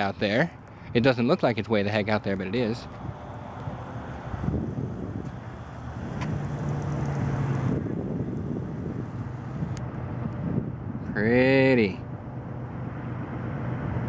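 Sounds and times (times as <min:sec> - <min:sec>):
wind rumbling on microphone: 0:00.0 - 0:12.3
low vehicle engine hum: 0:00.0 - 0:14.0.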